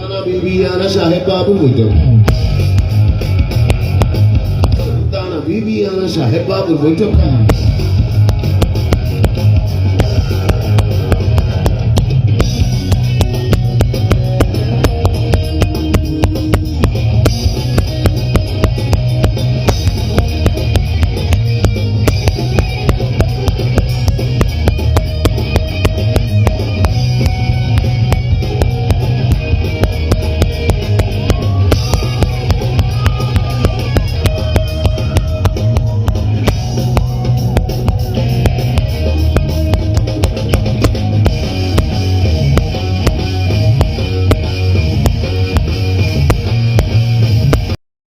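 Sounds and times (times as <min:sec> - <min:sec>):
bass guitar: 0:00.0 - 0:47.8
electric guitar: 0:00.0 - 0:47.8
drum kit beat: 0:02.1 - 0:05.5, 0:07.0 - 0:47.8.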